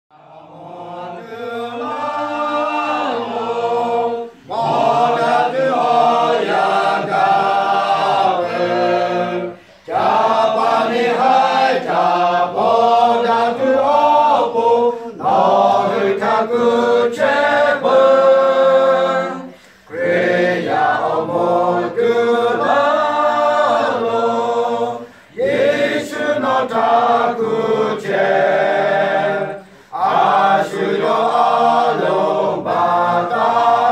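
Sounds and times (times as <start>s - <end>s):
choir singing: 0.1s - 33.9s.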